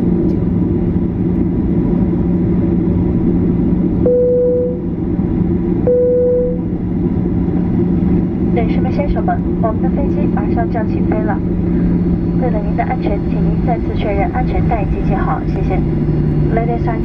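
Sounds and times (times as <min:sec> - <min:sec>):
airplane taxiing rumble: 0:00.0 - 0:17.0.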